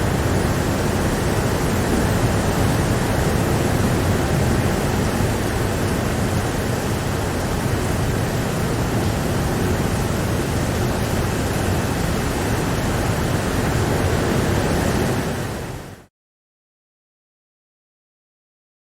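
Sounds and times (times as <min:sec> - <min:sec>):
steady rain: 0:00.0 - 0:16.1.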